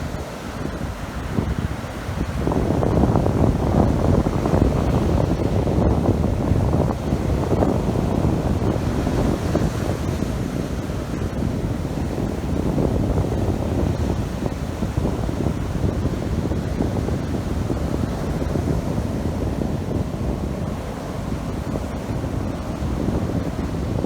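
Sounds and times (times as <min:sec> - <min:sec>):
sea waves washing: 0:00.0 - 0:24.0
wind buffeting microphone: 0:00.0 - 0:24.0.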